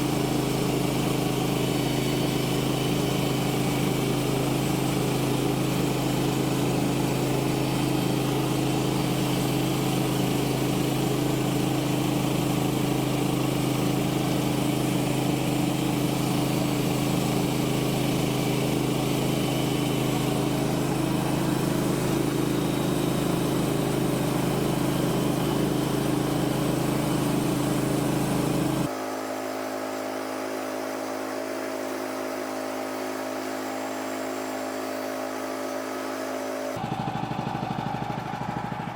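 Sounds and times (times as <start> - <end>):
sawmill gas engine running: 0.0 - 38.9.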